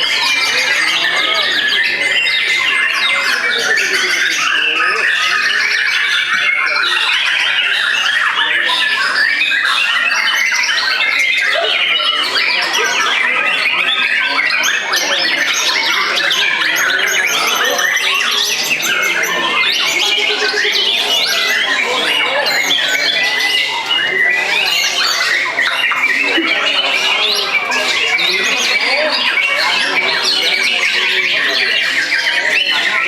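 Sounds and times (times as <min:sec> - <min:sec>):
other birds singing: 0:00.0 - 0:33.0.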